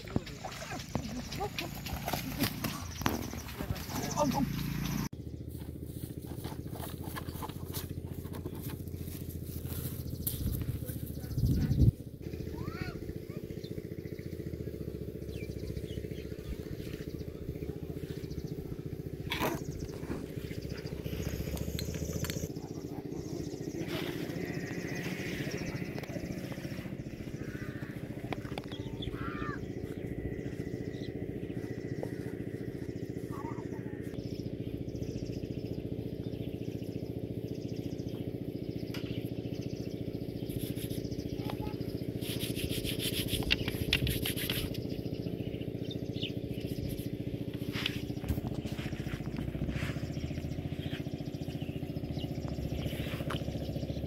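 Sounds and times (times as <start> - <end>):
low engine drone: 0.0 - 54.0
faint bird chirps: 9.7 - 54.0.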